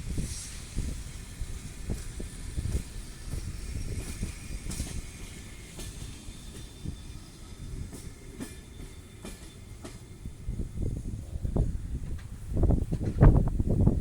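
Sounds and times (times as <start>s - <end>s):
train wheels clicking over rails: 0.0s - 10.8s, 12.0s - 13.4s
train rumble: 0.0s - 14.0s.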